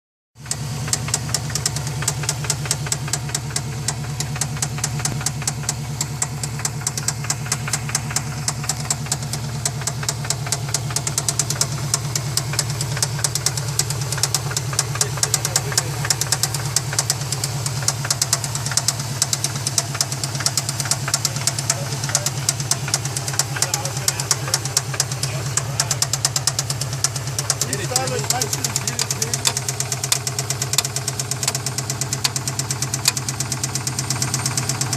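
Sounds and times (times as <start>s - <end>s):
car engine idling: 0.4s - 34.9s
rapid knocking tick: 0.4s - 34.9s.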